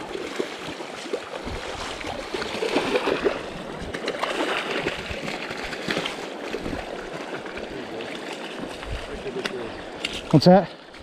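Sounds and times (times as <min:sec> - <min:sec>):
fish splashing in water: 0:00.0 - 0:10.0.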